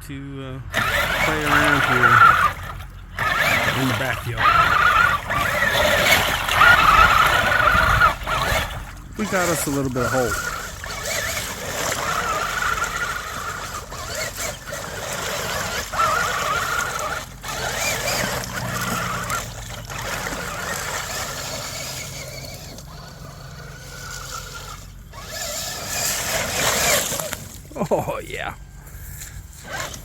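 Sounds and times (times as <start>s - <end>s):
electric motor whining: 0.6s - 30.0s.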